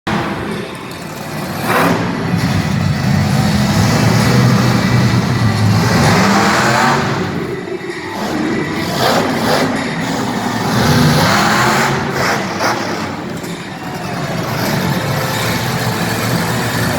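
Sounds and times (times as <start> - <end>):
monster truck engine revving: 0.0 - 16.9.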